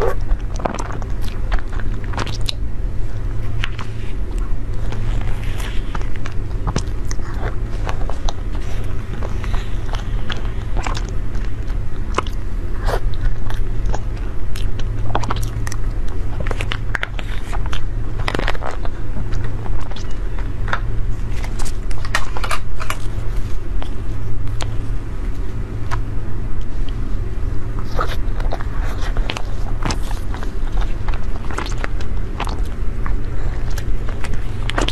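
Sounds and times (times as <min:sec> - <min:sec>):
biting and crunching: 0:00.0 - 0:34.9
steady low hum: 0:00.0 - 0:34.9.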